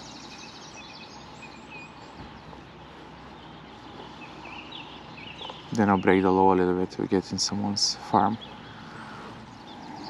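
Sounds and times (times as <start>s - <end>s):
quiet outdoor background noise: 0.0s - 10.0s
small birds chirping faintly: 0.0s - 10.0s.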